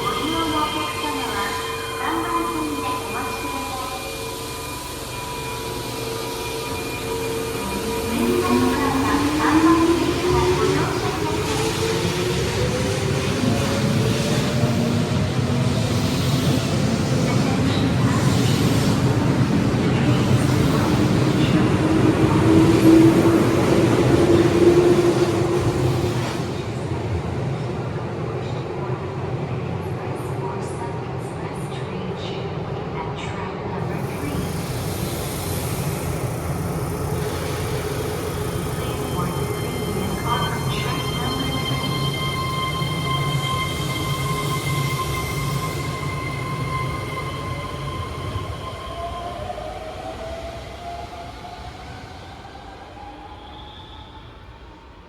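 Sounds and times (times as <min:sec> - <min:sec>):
electric train rumble: 0:00.0 - 0:28.5, 0:33.8 - 0:55.0.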